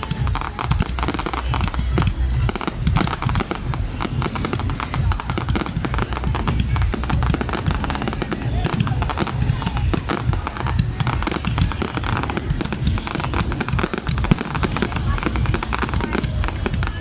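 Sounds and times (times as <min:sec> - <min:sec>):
deep booms: 0:00.0 - 0:17.0
fireworks bursting: 0:00.0 - 0:17.0
sharp bangs and crackles: 0:00.0 - 0:17.0.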